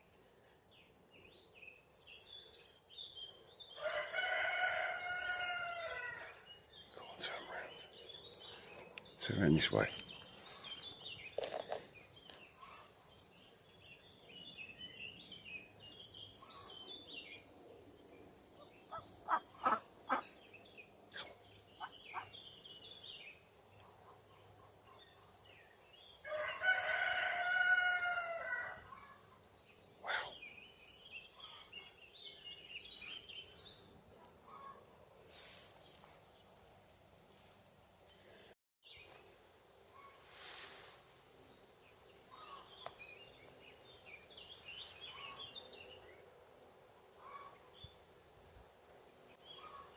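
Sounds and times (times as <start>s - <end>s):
small birds chirping: 0.0s - 27.4s, 28.8s - 49.9s.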